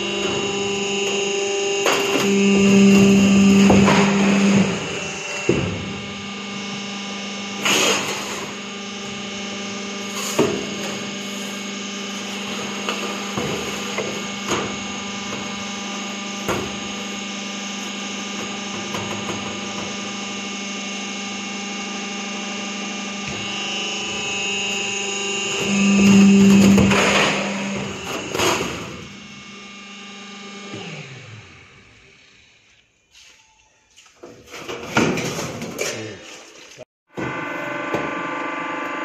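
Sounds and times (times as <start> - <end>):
sheet-metal shear humming: 0.0 - 32.2.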